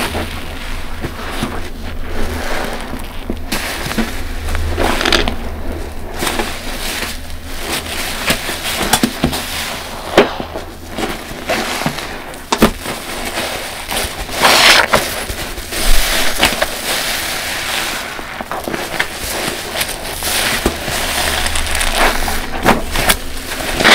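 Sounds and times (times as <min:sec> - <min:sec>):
sponges squelching foam: 0:00.0 - 0:23.9.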